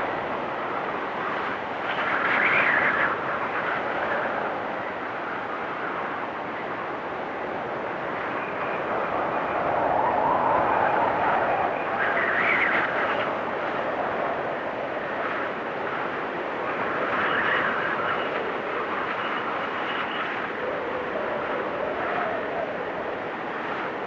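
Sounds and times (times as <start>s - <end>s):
blizzard wind blowing: 0.0s - 24.0s
wind whistling: 0.0s - 24.0s.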